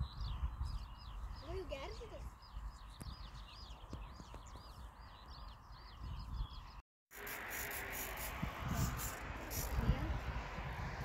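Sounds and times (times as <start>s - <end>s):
wind buffeting microphone: 0.0s - 6.8s, 8.0s - 11.0s.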